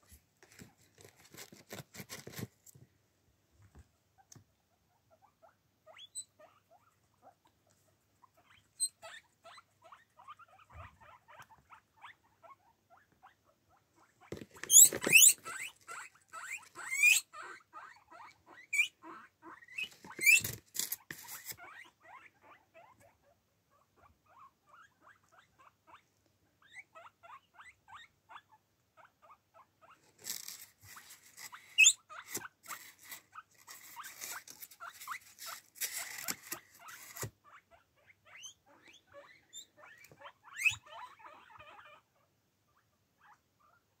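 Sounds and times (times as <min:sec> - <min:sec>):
guinea pig wheek: 0:00.0 - 0:02.8, 0:03.7 - 0:44.0
guinea pigs squeaking: 0:04.2 - 0:44.0.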